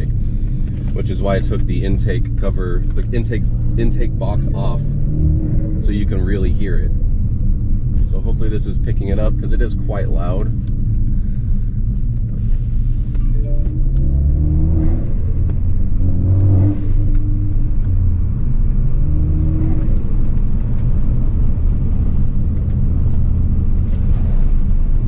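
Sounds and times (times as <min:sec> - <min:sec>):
turbocharged car engine accelerating: 0:00.0 - 0:25.0.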